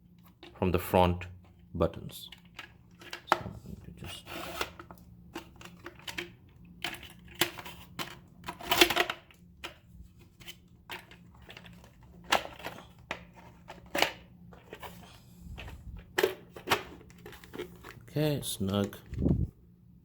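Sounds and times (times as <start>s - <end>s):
plastic parts clicking and rattling: 1.4s - 3.4s, 4.5s - 19.2s.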